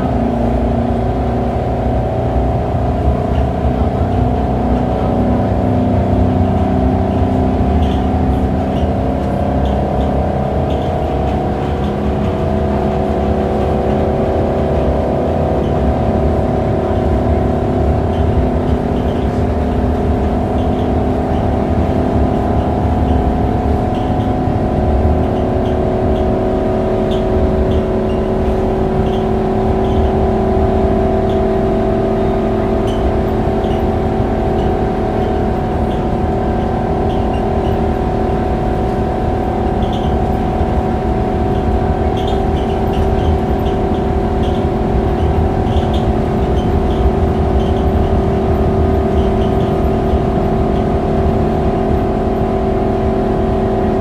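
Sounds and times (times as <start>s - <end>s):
diesel bus engine: 0.0s - 54.0s
low road rumble: 0.0s - 54.0s.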